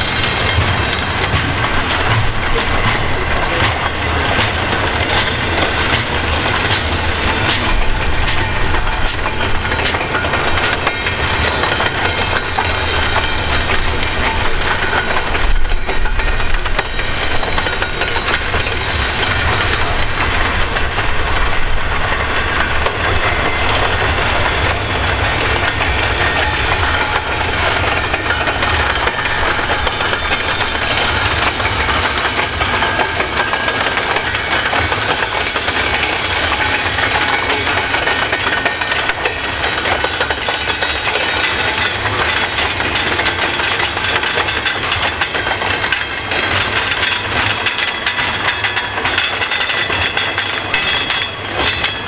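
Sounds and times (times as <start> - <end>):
freight train wheels rumbling on rails: 0.0 - 52.0.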